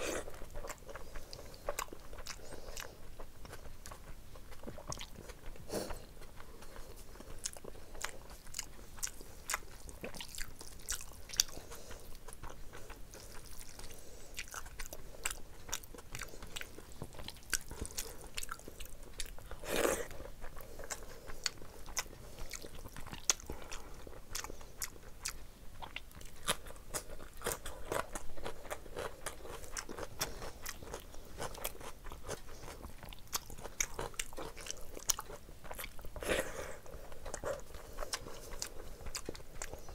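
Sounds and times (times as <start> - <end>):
chewing and wet mouth smacking: 0.2 - 39.9.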